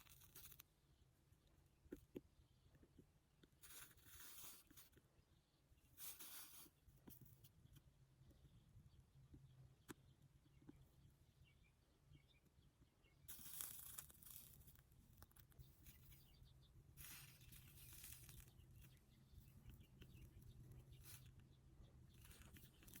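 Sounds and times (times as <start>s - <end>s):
faint rustling and crinkling: 0.0s - 8.6s, 12.4s - 23.0s.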